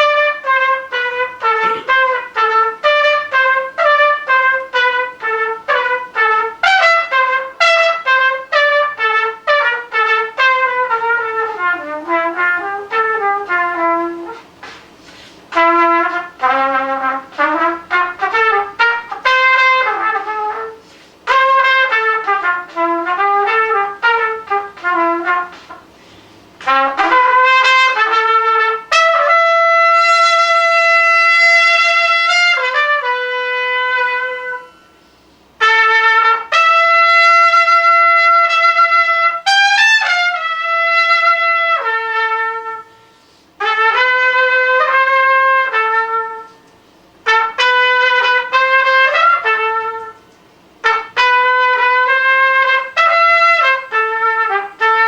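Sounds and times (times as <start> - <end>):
trumpet solo: 0.0 - 55.0.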